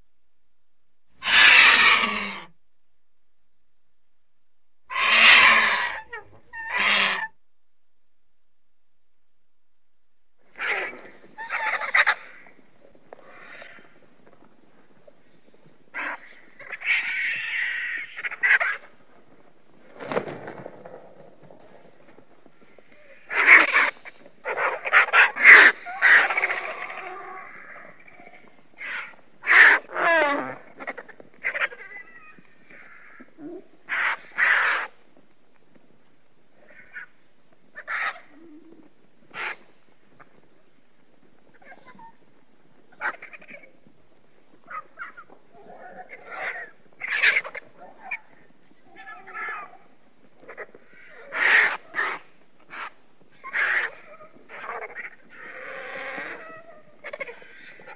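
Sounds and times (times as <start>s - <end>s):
vultures calling: 1.2s - 2.6s, 4.9s - 7.4s, 10.4s - 35.2s, 36.5s - 57.9s.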